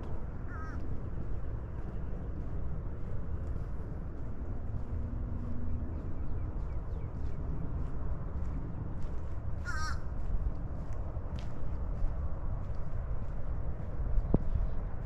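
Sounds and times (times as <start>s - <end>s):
footsteps on a trail: 0.0s - 15.0s
steady low rumble: 0.0s - 15.0s.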